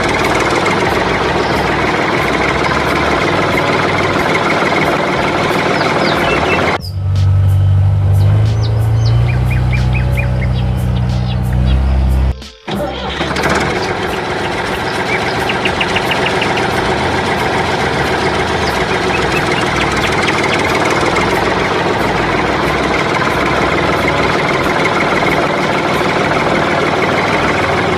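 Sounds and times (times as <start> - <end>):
small machine running: 0.0 - 6.8, 12.2 - 27.9.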